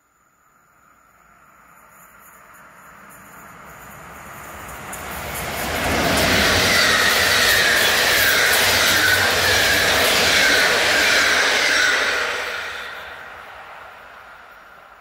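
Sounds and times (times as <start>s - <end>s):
train wheels on rails: 1.7s - 15.0s
train coaches passing at speed: 1.9s - 15.0s.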